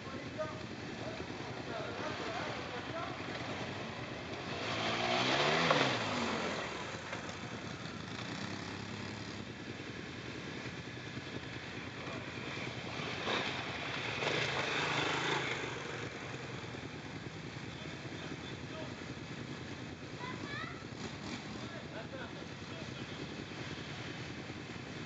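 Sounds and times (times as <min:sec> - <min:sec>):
quad bike engines passing: 0:00.0 - 0:25.0.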